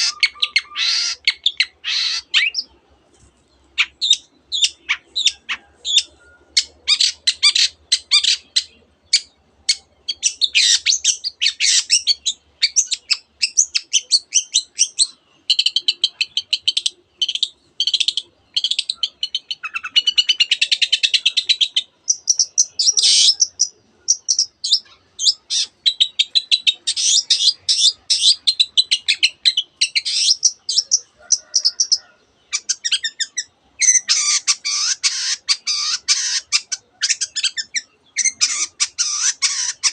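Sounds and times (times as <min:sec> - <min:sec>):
bird singing chirps and whistles: 0:00.0 - 0:02.7, 0:03.8 - 0:39.9.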